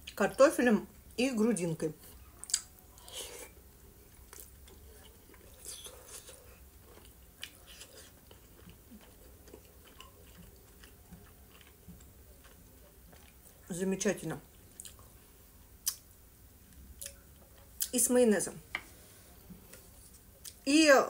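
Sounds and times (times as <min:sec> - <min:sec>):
person chewing quietly: 0:02.0 - 0:13.8, 0:14.4 - 0:18.0, 0:18.7 - 0:20.6.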